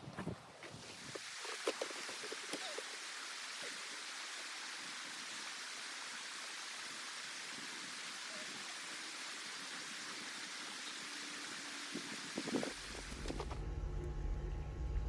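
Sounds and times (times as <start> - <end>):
steady hiss: 0.6 - 13.4.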